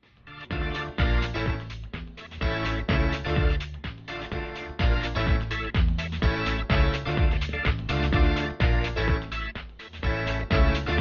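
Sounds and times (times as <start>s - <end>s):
instrumental music with heavy bass: 0.0s - 11.0s.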